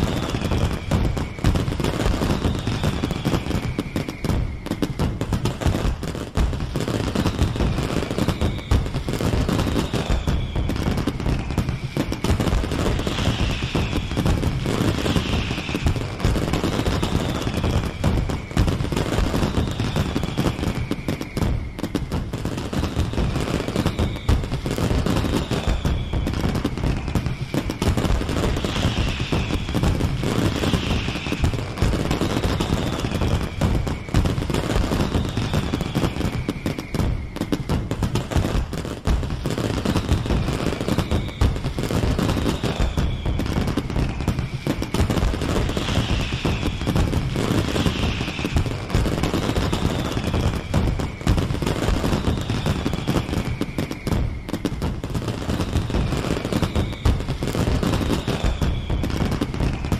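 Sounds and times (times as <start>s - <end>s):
falling firework whistles: 0.0s - 59.9s
fireworks booms: 0.0s - 59.9s
fireworks crackling and popping: 0.0s - 59.9s.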